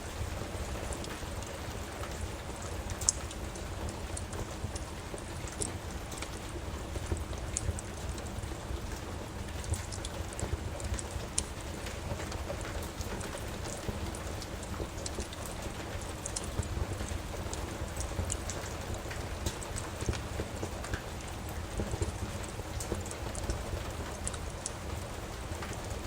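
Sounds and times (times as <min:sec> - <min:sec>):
steady rain: 0:00.0 - 0:26.0
wood fire crackling: 0:00.0 - 0:26.0.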